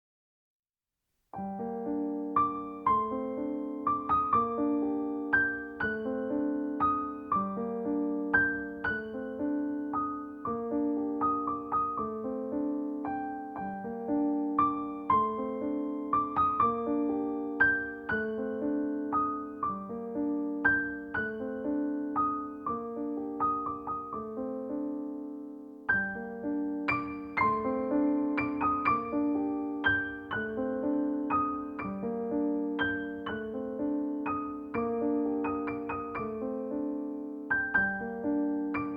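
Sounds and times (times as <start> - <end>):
gentle piano music: 1.3 - 38.9.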